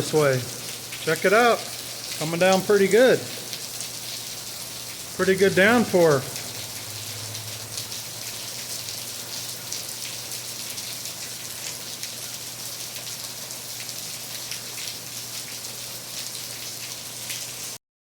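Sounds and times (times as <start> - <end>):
heavy rain: 0.0 - 17.8.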